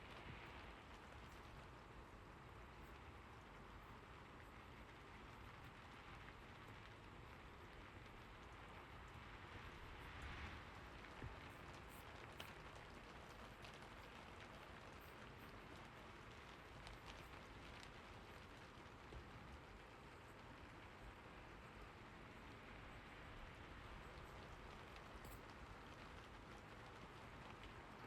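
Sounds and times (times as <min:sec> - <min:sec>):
faint steady rain: 0:00.0 - 0:28.0.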